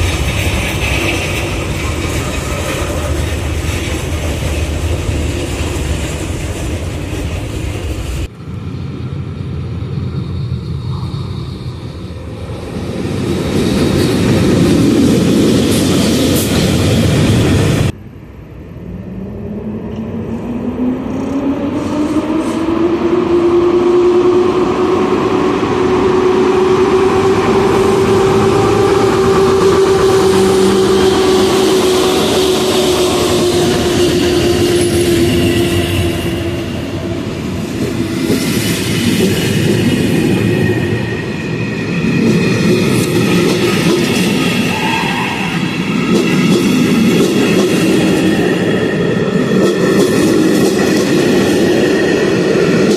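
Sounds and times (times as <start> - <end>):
diesel locomotive passing: 0.0 - 52.9
train carriages rolling past: 0.0 - 52.9.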